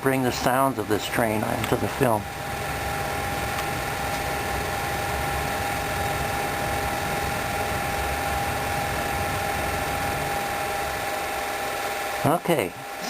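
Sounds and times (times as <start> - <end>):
movie projector whirring: 0.0 - 13.0.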